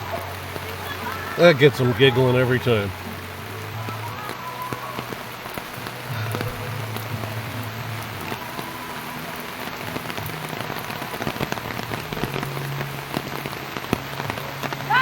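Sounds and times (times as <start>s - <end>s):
raindrops ticking on surfaces: 0.0s - 15.0s
steady rain falling: 0.0s - 15.0s.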